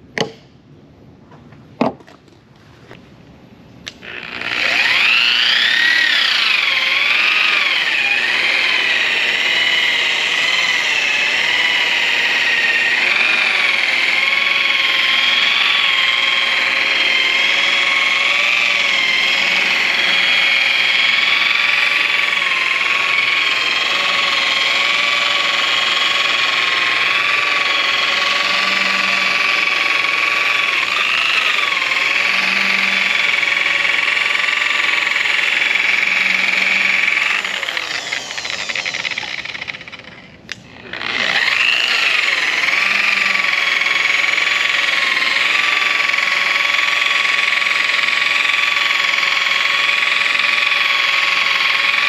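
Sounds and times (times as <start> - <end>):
electric polisher whining: 3.9 - 52.0.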